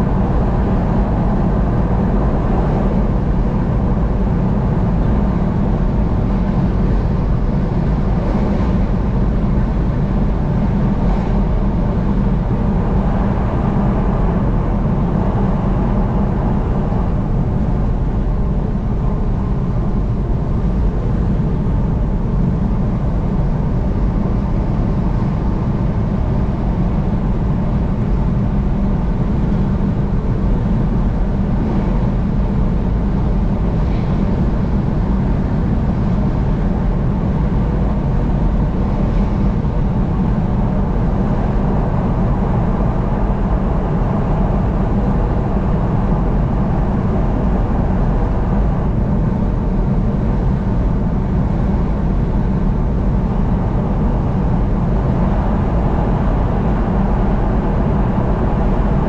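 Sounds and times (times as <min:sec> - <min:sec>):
car driving at highway speed: 0:00.0 - 0:59.0.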